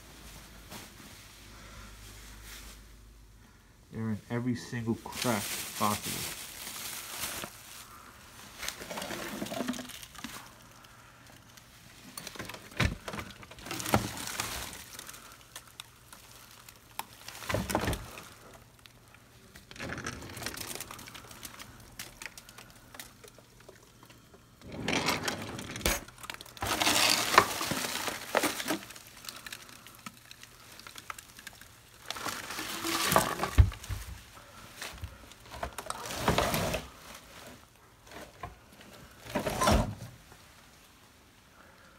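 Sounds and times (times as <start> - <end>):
plastic crinkling and rustling: 4.4 - 41.9.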